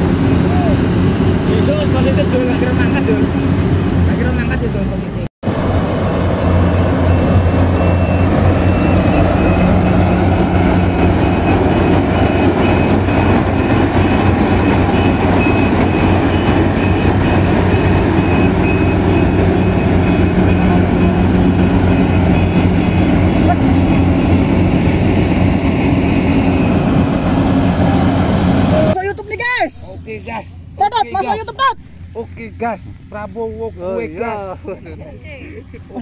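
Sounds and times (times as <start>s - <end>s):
combine harvester engine drone: 0.0s - 36.0s.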